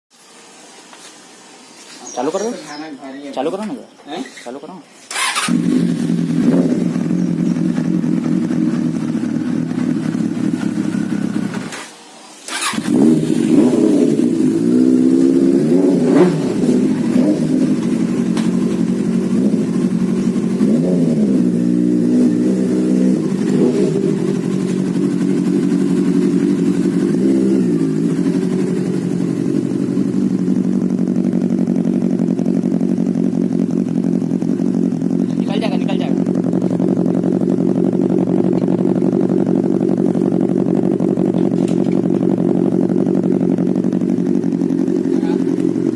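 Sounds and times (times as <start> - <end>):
motorcycle engine idling and revving: 5.1 - 45.9.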